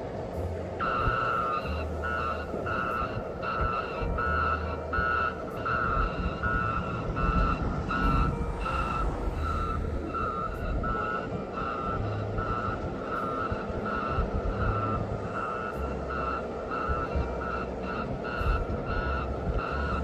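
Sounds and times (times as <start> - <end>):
diesel engine rumbling: 0.0 - 20.0
warning beeper beeping: 0.8 - 20.0.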